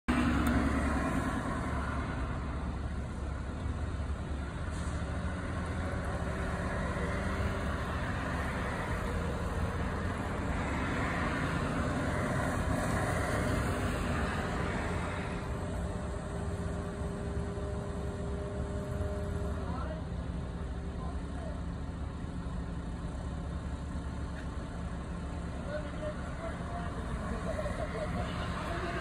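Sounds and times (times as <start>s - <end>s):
cars passing: 0.1s - 29.0s
engine rumble: 0.1s - 29.0s.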